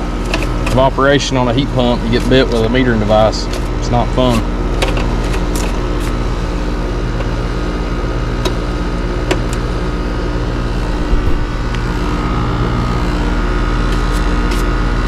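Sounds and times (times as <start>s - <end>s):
condenser fan noise: 0.0s - 15.0s
heat pump compressor hum: 0.0s - 15.0s.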